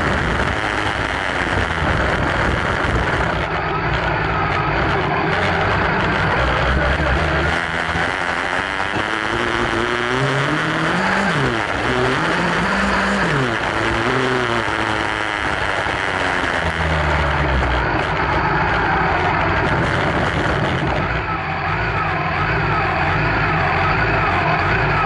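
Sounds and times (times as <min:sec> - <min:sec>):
rush of wind and dirt: 0:00.0 - 0:21.6
motorcycle engine revving: 0:00.0 - 0:25.0.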